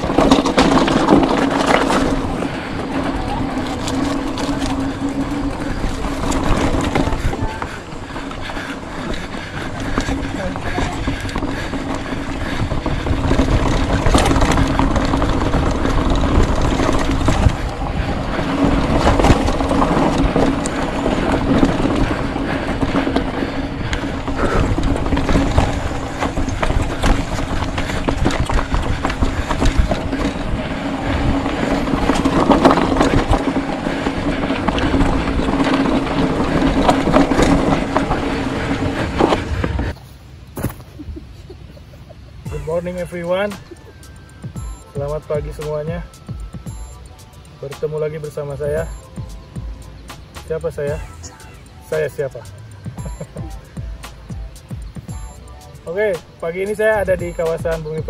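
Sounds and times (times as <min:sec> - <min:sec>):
mountain bike rumbling over rocks: 0:00.0 - 0:40.8, 0:51.9 - 0:58.0
steady hum: 0:00.0 - 0:58.0.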